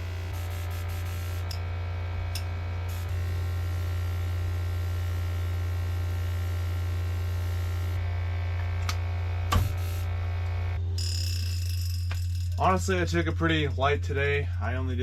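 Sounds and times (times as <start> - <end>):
low electric hum: 0.0 - 15.0.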